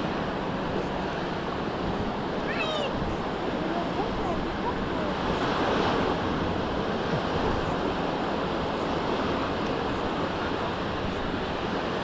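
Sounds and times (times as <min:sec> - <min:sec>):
waves breaking on shore: 0:00.0 - 0:12.0
wind buffeting microphone: 0:00.0 - 0:12.0.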